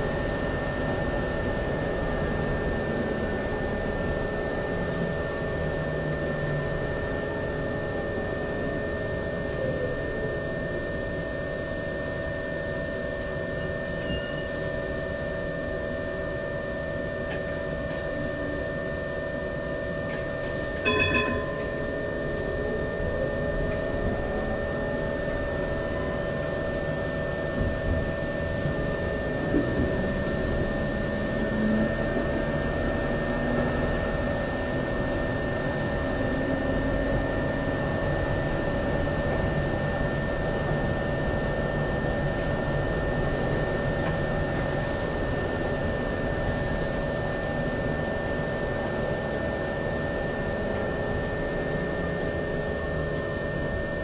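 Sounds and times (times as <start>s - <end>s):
tram electrical hum and whine: 0.0s - 54.0s
tram traction whine: 0.0s - 54.0s.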